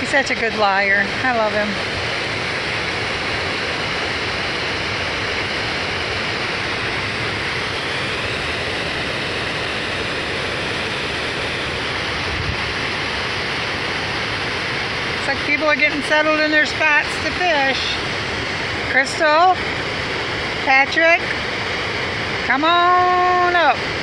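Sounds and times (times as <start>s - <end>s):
water rushing over dam spillway: 0.0s - 24.0s.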